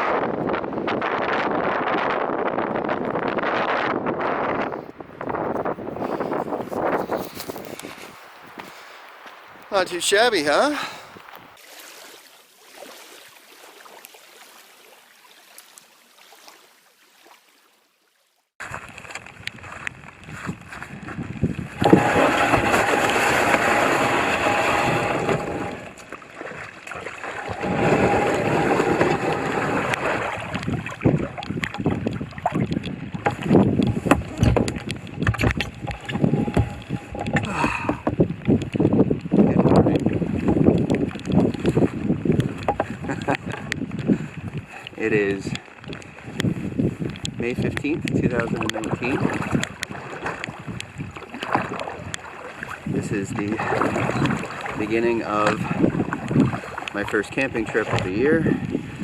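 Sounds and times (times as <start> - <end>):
wind buffeting microphone: 0.0 - 11.6, 18.6 - 59.0
water splashing around hull and paddle: 0.0 - 59.0.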